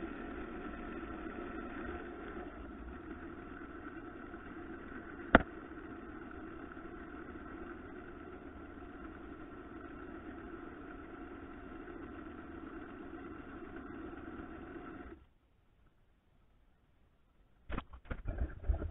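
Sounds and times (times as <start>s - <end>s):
wood lathe motor humming: 0.0s - 15.2s.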